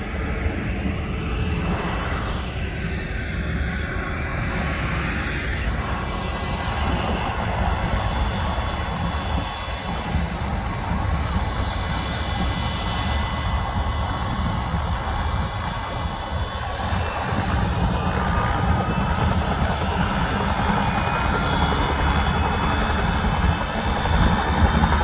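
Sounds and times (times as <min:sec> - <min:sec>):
helicopter rotor rumble: 0:00.0 - 0:25.0
high turbine whine: 0:00.0 - 0:25.0.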